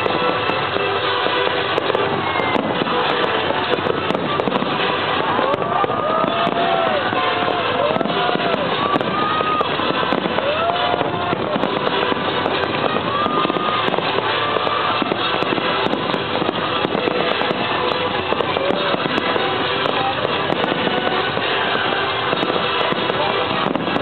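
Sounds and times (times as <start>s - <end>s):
fireworks bursting and crackling: 0.0s - 24.0s
rising firework whistles: 0.0s - 24.0s.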